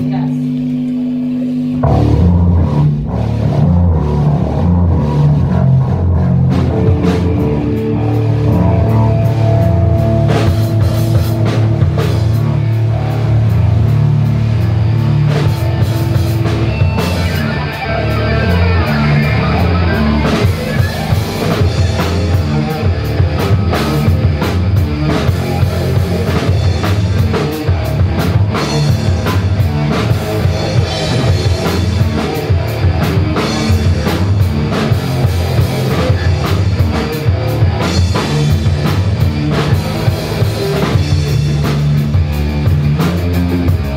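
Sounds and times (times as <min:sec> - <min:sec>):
bass guitar: 0:00.0 - 0:43.9
electric guitar chords: 0:00.0 - 0:43.9
drum kit beat: 0:01.8 - 0:43.9.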